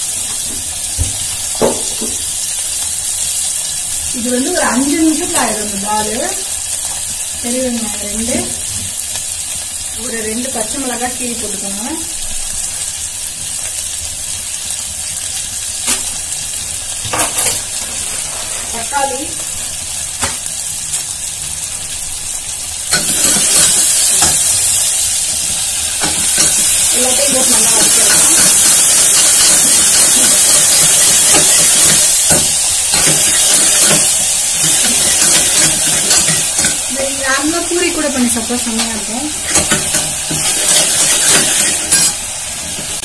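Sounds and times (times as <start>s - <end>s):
onions sizzling in hot oil: 0.0s - 43.0s.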